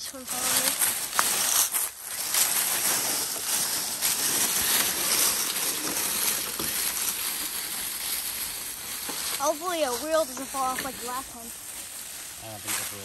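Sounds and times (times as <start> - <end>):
tyres crunching through dry leaves: 0.0 - 13.0.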